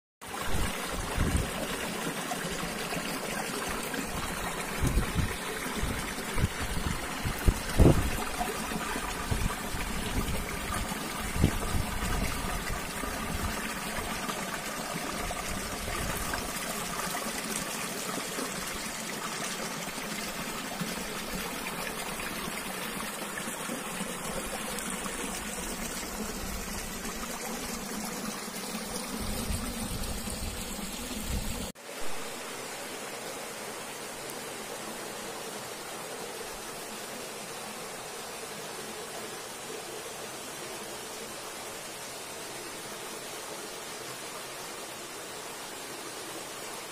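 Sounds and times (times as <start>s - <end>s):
stream running over rocks: 0.2s - 46.9s.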